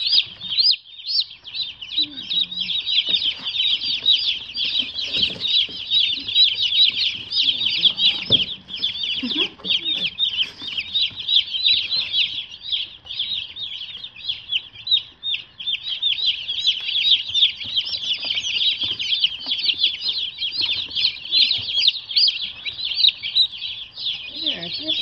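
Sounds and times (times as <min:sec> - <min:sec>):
chicks peeping: 0:00.0 - 0:25.0.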